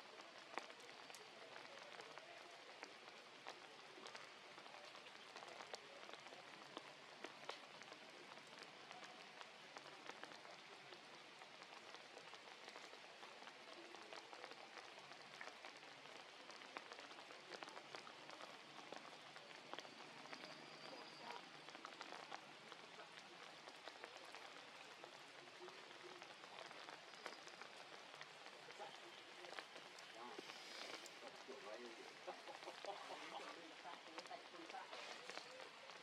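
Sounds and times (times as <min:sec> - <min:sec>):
faint rain falling: 0:00.0 - 0:36.0.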